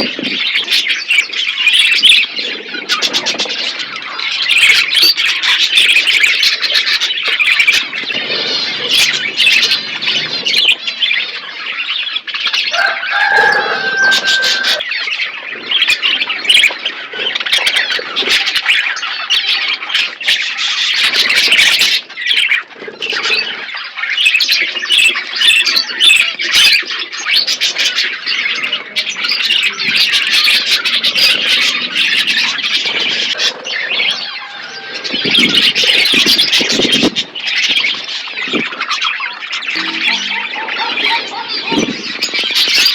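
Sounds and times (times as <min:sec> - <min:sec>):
parrots chattering: 0:00.0 - 0:42.9.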